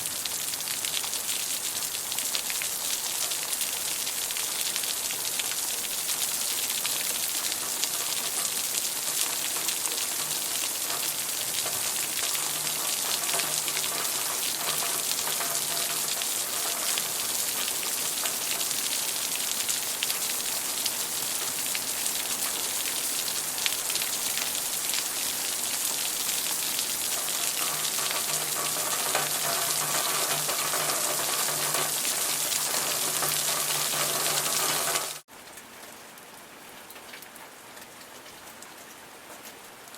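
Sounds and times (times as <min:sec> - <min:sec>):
heavy rain falling: 0:00.0 - 0:35.4.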